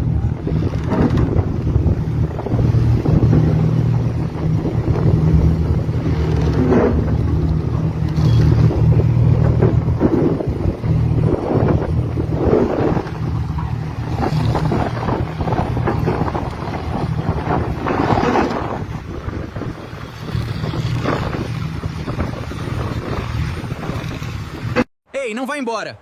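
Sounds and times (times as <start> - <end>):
gusty wind on microphone: 0.0 - 24.9.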